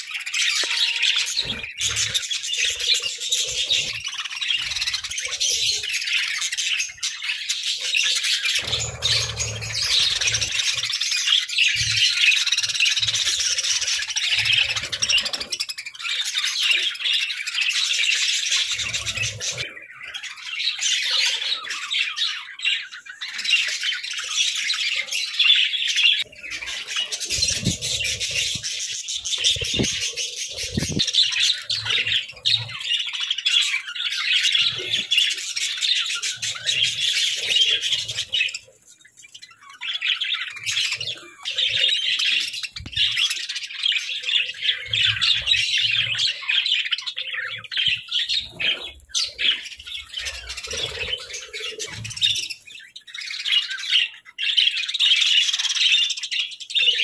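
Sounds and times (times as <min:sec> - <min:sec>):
budgerigars chattering: 0:00.0 - 0:22.8, 0:23.4 - 0:38.7, 0:39.3 - 0:57.0.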